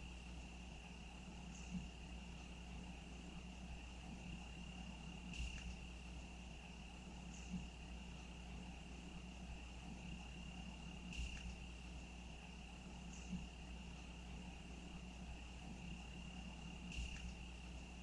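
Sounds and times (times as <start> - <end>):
crickets trilling: 0.0 - 18.0
faint low hum: 0.0 - 18.0.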